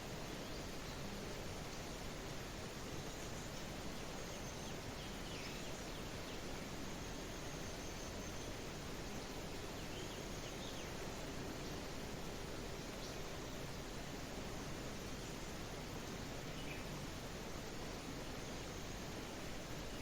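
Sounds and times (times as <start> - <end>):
light rain hiss: 0.0 - 20.0.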